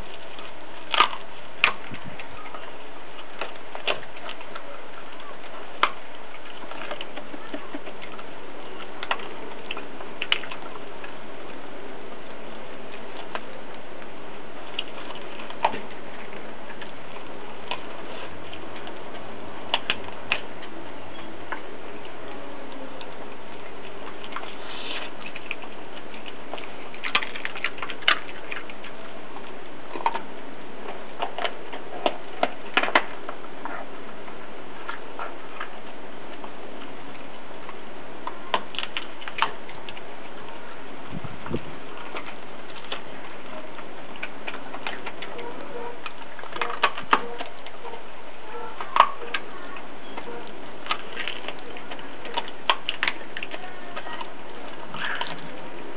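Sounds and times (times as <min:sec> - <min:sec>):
dog crunching bone: 0:00.0 - 0:55.9.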